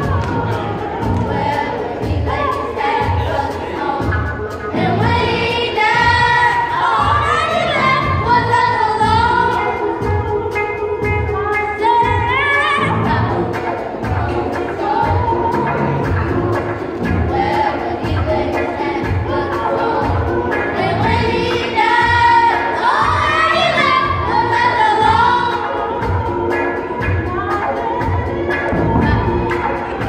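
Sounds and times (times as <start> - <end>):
steady beat: 0.0 - 30.0.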